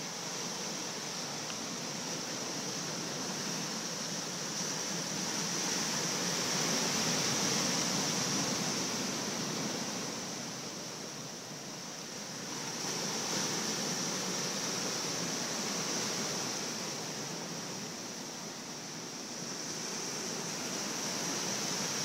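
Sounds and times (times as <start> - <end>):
surf washing up beach: 0.0 - 22.0.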